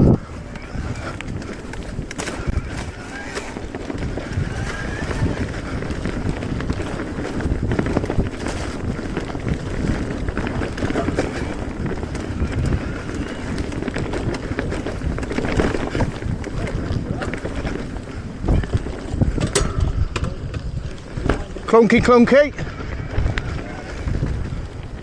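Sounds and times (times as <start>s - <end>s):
bike knocking and rattling: 0.0s - 25.0s
tyre noise: 0.0s - 25.0s
wind rushing over microphone: 0.0s - 25.0s.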